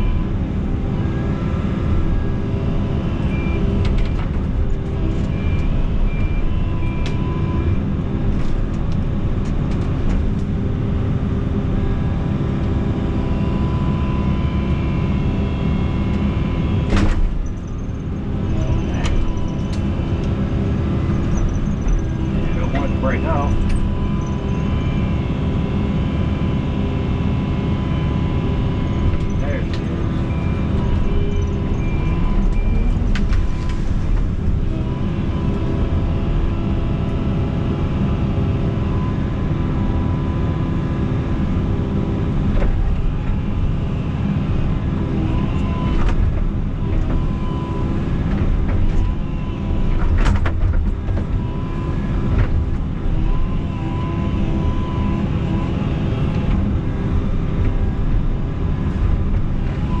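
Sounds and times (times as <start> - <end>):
excavator diesel engine running: 0.0 - 60.0
hydraulic whine: 11.8 - 60.0.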